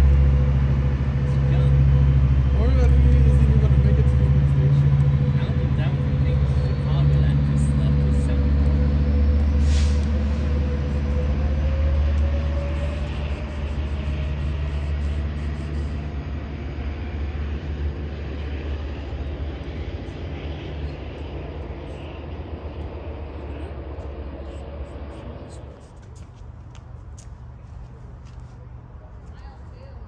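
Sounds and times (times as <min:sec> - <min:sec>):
diesel train engine rumble: 0:00.0 - 0:30.0.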